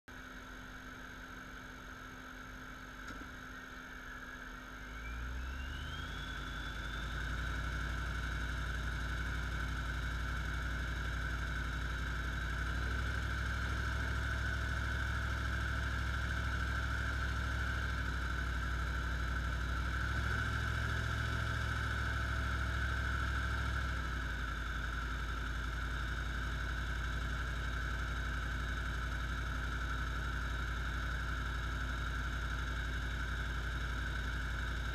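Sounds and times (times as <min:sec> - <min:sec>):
car engine running under load: 0:00.1 - 0:34.9
supercharger whine: 0:00.1 - 0:34.9.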